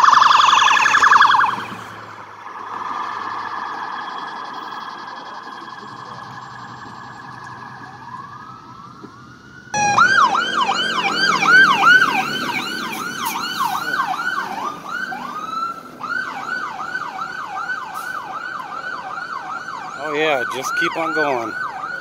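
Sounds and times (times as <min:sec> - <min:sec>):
fire engine siren: 0:00.0 - 0:22.0.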